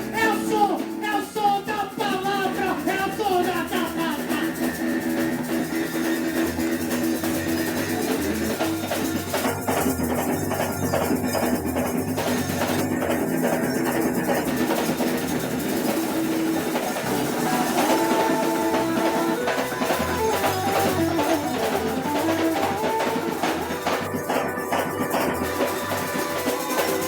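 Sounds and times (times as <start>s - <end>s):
guitar melody: 0.0s - 27.0s
hand percussion: 0.0s - 27.0s.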